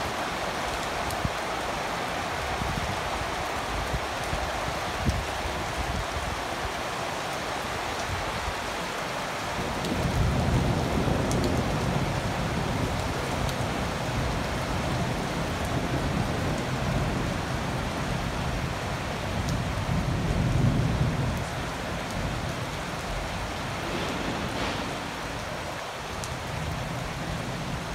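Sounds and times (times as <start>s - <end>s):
heavy rain falling: 0.0s - 27.9s.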